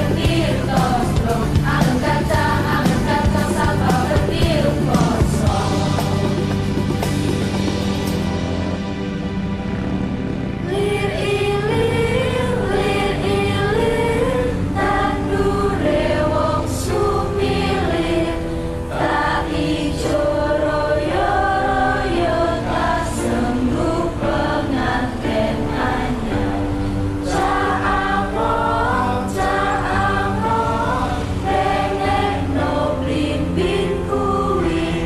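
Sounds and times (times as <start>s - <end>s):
choir singing with accompaniment: 0.0s - 35.0s.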